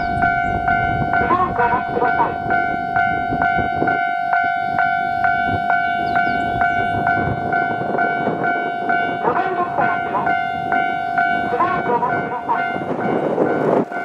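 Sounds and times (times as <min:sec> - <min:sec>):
birds chirping: 0:00.0 - 0:03.1, 0:04.2 - 0:12.6
level crossing warning bell: 0:00.0 - 0:14.0.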